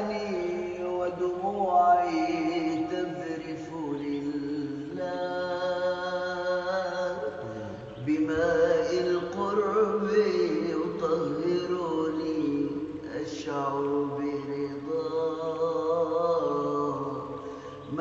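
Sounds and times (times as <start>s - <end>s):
wordless vocal chanting: 0.0s - 18.0s.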